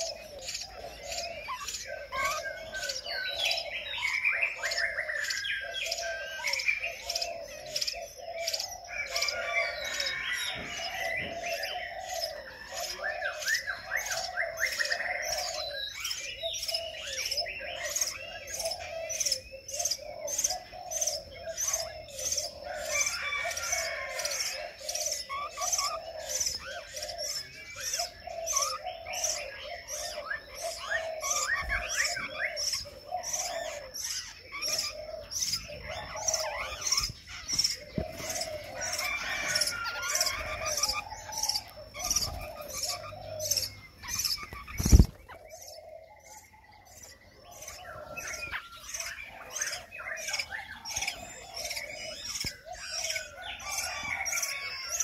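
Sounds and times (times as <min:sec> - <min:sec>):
birds chirping and warbling: 0:00.0 - 0:55.0.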